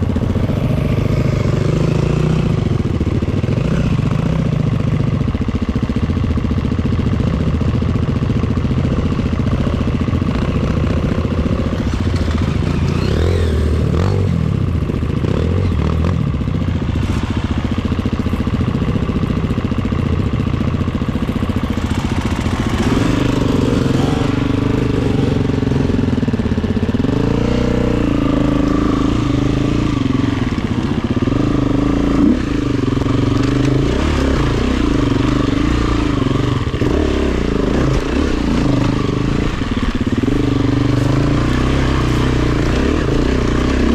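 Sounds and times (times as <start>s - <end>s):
dirt bike engine revving: 0.0s - 6.0s, 6.7s - 43.9s.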